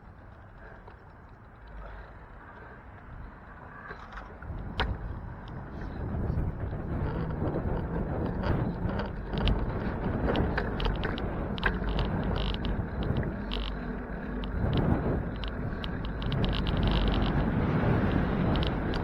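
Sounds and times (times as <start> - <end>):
bicycle clicks and rattles: 0.0 - 19.0
wind and road rumble: 0.0 - 19.0.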